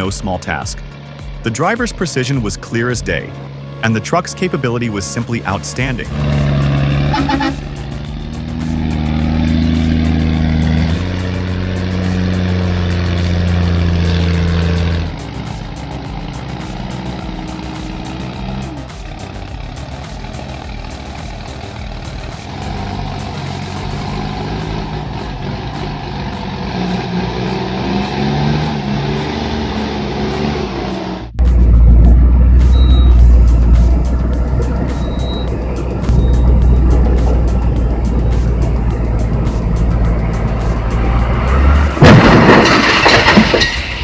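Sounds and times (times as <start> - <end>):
heavy truck engine under load: 5.3 - 44.0.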